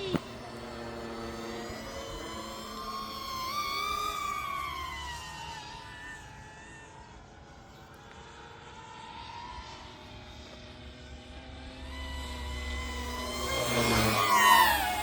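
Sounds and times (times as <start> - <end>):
model airplane motor and propeller: 0.0 - 15.0
simulated engine sound: 0.0 - 15.0.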